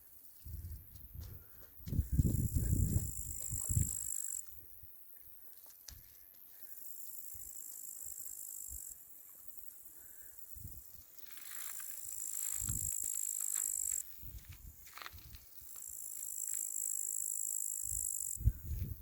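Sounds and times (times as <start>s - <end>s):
crickets trilling: 1.8s - 5.3s, 6.5s - 19.0s.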